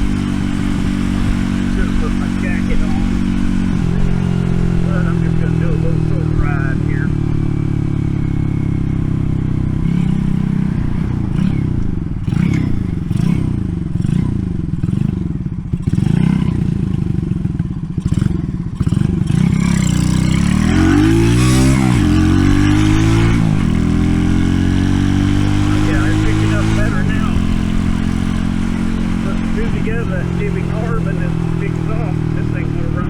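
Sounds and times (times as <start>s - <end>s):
engine clatter: 0.0s - 33.0s
small motorcycle engine revving: 0.0s - 33.0s.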